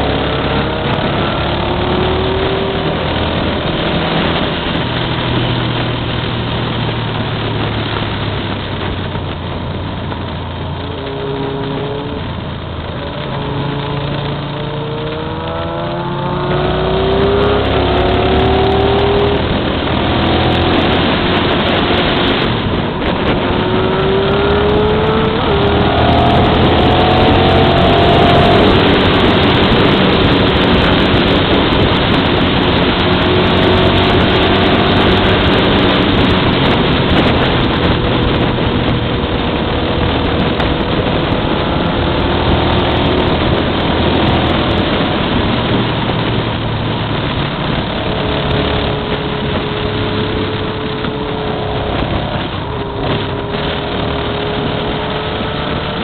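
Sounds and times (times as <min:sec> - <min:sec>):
motorcycle engine accelerating: 0:00.0 - 0:56.0
wind rush over microphone: 0:00.0 - 0:56.0.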